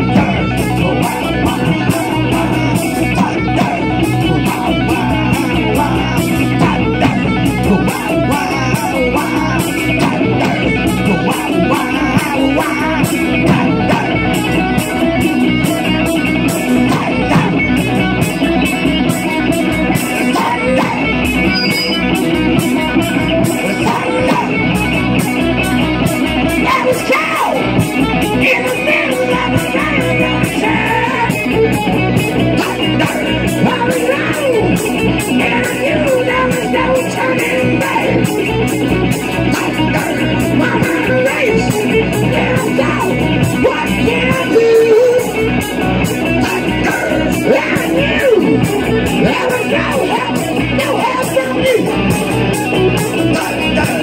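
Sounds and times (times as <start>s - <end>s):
bass guitar: 0.0s - 54.0s
distorted electric guitars: 0.0s - 54.0s
drums and cymbals: 0.0s - 54.0s
man singing: 0.0s - 54.0s.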